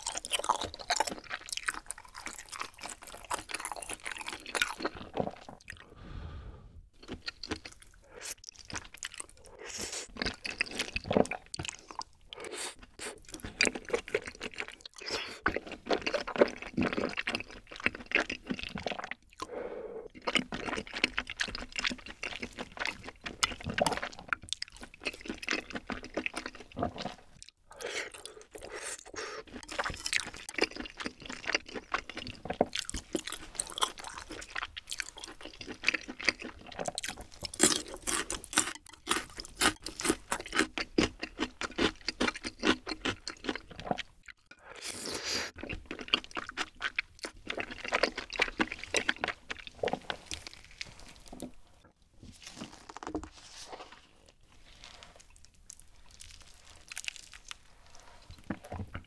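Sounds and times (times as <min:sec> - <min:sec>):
wet chewing and slurping: 0:00.0 - 0:05.9, 0:06.9 - 0:59.0.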